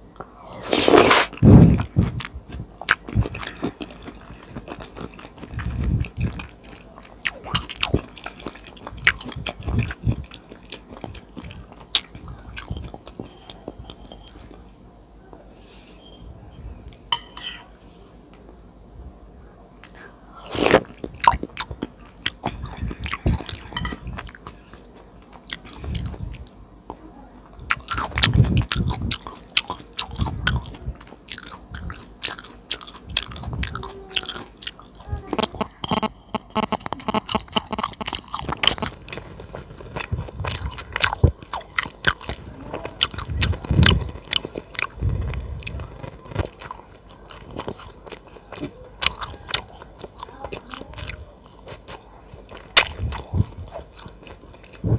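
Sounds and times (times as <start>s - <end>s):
chewing and biting food: 0.6s - 14.6s, 19.8s - 54.9s.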